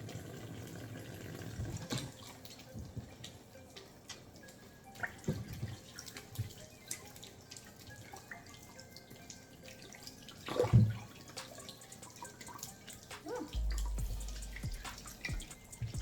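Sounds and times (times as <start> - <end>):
water dripping and splashing: 0.0 - 16.0.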